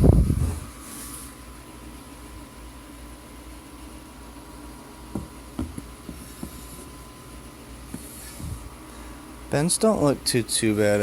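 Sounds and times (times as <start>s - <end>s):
low hum of room noise: 0.0s - 11.0s.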